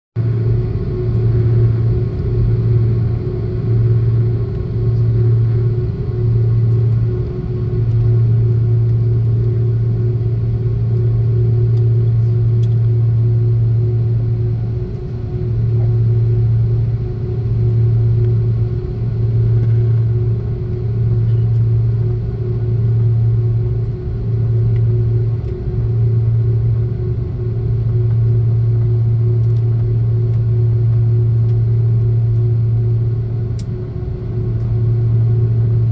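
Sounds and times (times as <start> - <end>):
jet engine drone in cabin: 0.2 - 35.9.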